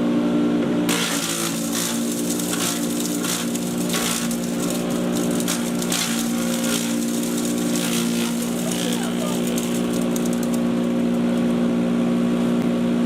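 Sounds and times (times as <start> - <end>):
chipper shredder motor hum: 0.6 - 12.8
blades crunching material: 0.9 - 11.4.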